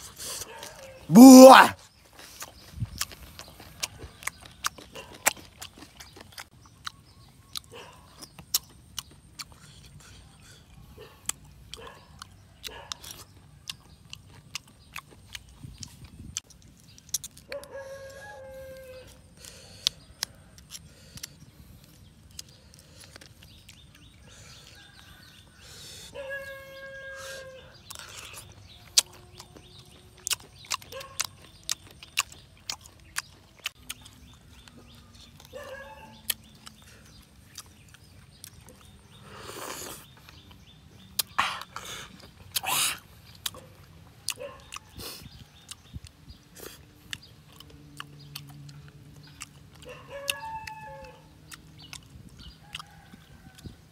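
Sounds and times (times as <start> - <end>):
slurping and chewing: 0.0 - 53.9.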